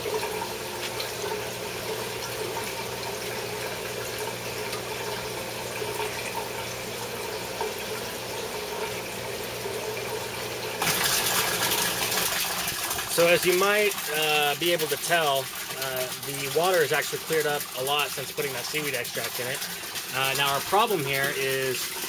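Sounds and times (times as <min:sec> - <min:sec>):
water bubbling and trickling: 0:00.0 - 0:22.0
water pouring from a pipe: 0:00.0 - 0:22.0.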